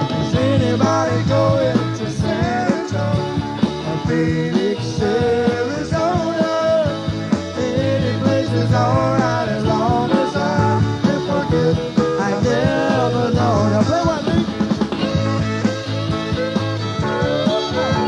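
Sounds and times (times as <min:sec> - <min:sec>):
bending lead melody: 0:00.0 - 0:18.0
country-rock band playing: 0:00.0 - 0:18.0.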